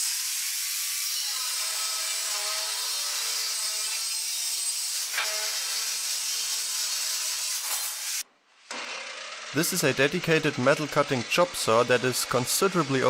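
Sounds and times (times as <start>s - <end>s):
chop saw cutting steel: 0.0s - 13.0s.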